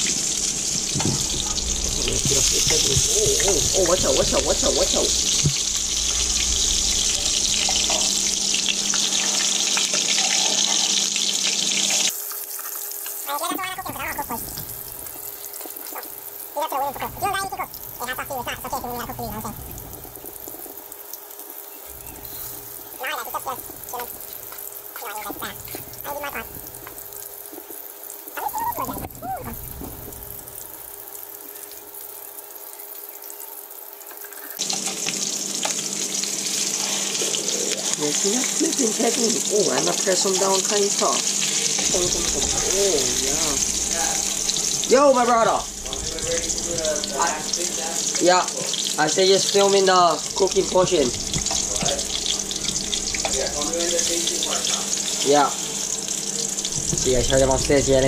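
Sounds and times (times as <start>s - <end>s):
patties sizzling in hot oil: 0.0s - 58.0s.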